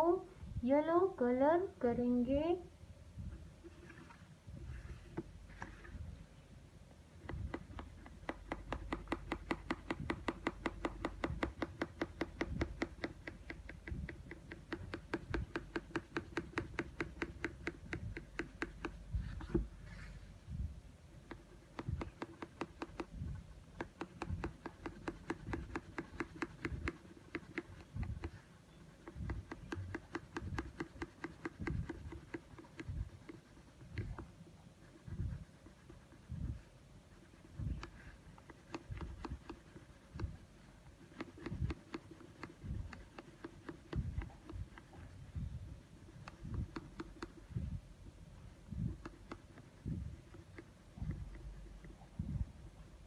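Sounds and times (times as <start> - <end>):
pencil scratching on paper: 7.2 - 20.2, 21.1 - 23.2, 23.8 - 47.7, 48.6 - 52.1.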